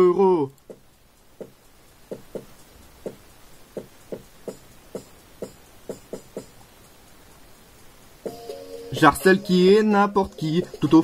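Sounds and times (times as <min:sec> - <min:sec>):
soft percussive beat: 0:00.6 - 0:07.1, 0:08.0 - 0:11.0.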